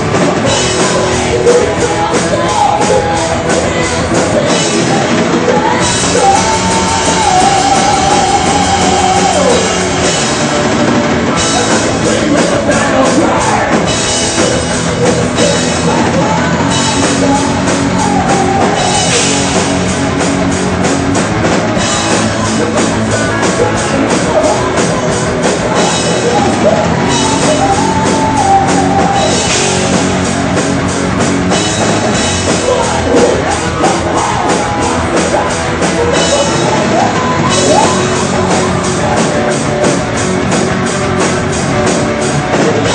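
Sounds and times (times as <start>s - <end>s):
man singing: 0.0s - 10.6s, 11.2s - 19.8s, 21.8s - 30.1s, 32.0s - 40.0s, 42.5s - 42.9s
distorted electric guitars: 0.0s - 42.9s
fast drumming with cymbals: 0.0s - 42.9s.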